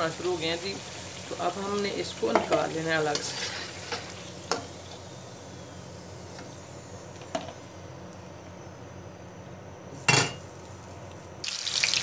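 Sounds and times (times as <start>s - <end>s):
hot oil bubbling: 0.0s - 8.5s, 9.9s - 12.0s.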